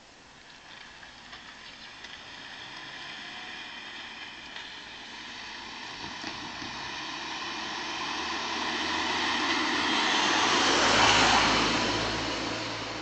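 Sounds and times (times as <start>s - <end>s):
car driving past: 1.4s - 13.0s.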